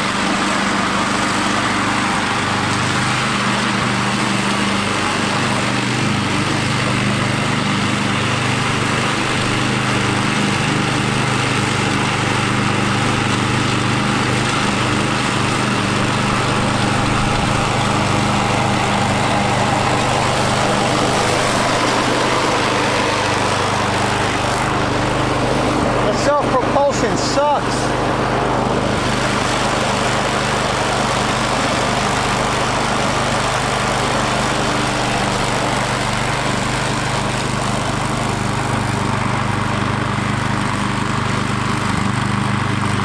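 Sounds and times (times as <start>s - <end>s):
lawn mower engine running: 0.0s - 43.0s.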